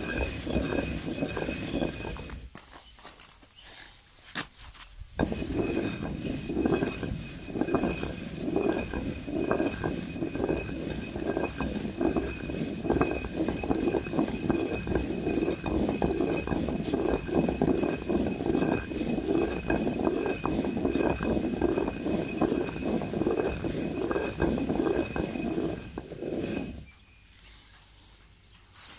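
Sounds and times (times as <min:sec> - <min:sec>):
millstone grinding with gritty rasp: 0:00.0 - 0:02.6, 0:05.2 - 0:27.0.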